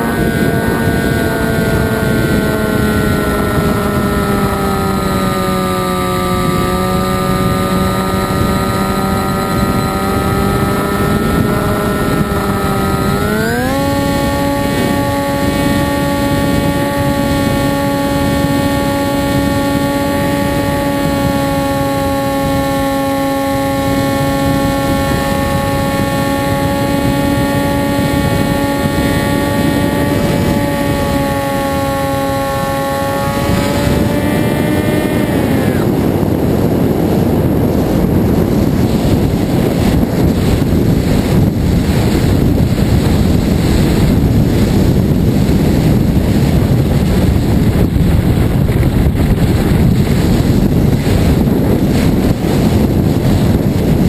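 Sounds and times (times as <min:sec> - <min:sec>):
electric motor and propeller whine: 0:00.0 - 0:54.0
wind rushing: 0:00.0 - 0:54.0.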